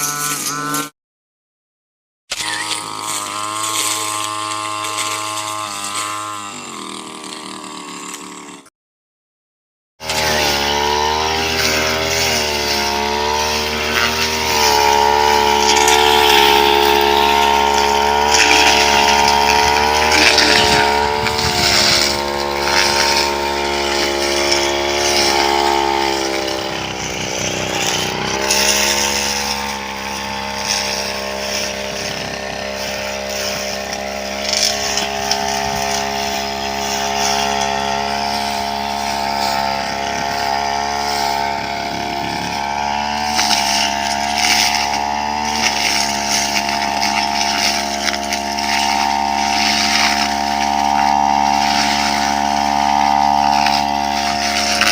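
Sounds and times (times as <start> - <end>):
brush cutter engines cutting: 0.0 - 0.9, 2.3 - 8.7, 10.0 - 54.9.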